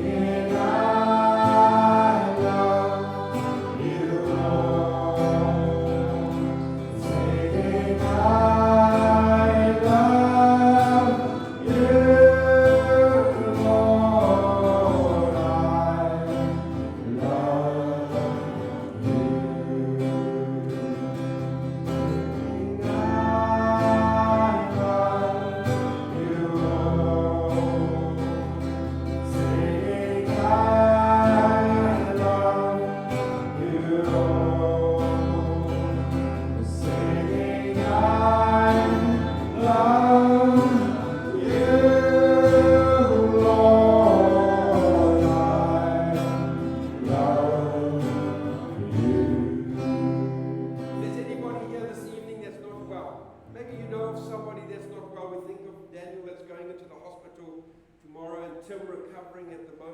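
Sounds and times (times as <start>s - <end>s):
person singing gospel song: 0.0s - 55.4s
strummed guitar: 0.0s - 55.5s.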